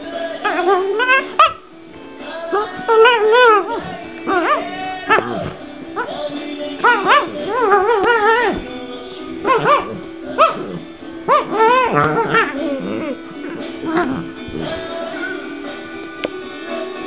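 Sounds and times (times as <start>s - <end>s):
dog whining: 0.4s - 1.7s, 2.5s - 8.7s, 9.4s - 15.5s.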